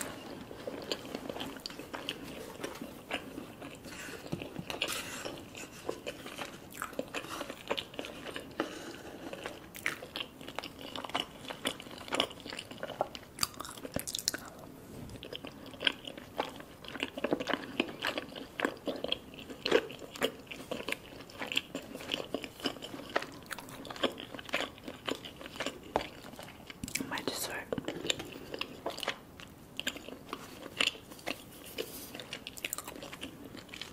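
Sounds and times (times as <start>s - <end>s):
wet chewing and lip smacking: 0.2s - 8.6s, 9.3s - 14.6s, 15.2s - 33.9s.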